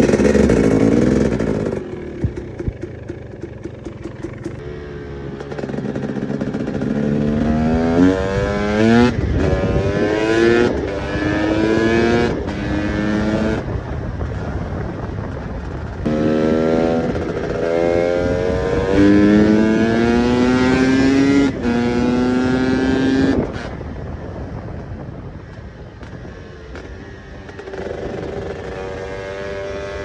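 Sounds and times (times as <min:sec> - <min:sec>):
two-stroke engine accelerating: 0:00.0 - 0:30.0.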